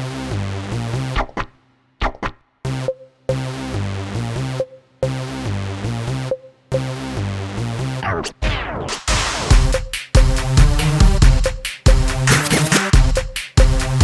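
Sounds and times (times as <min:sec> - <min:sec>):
electronic music: 0:02.7 - 0:14.0.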